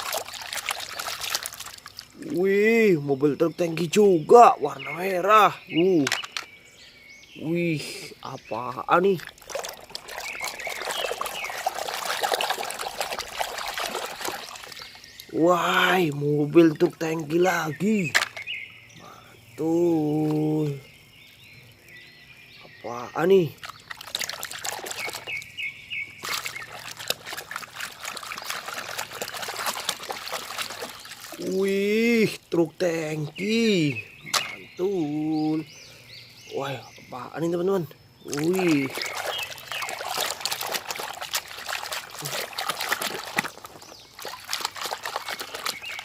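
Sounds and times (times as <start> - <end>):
water trickling and splashing: 0.0 - 46.0.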